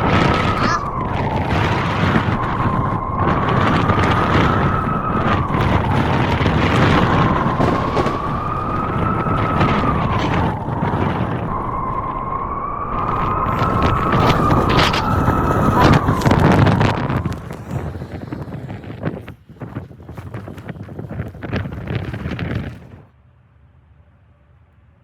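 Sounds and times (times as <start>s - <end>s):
howling blizzard wind: 0.0s - 23.2s.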